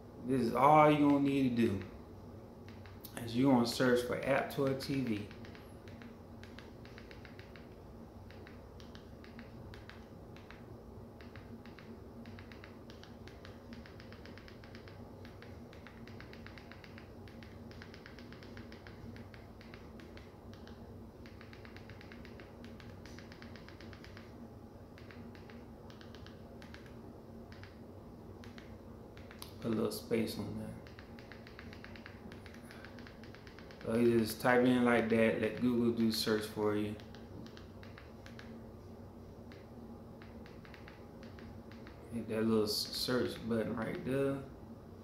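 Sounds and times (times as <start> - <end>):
low electrical hum: 0.0 - 45.0.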